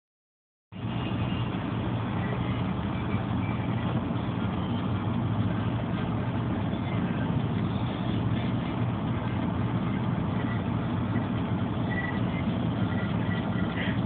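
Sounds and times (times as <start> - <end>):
vehicle engine and road drone: 0.7 - 14.0.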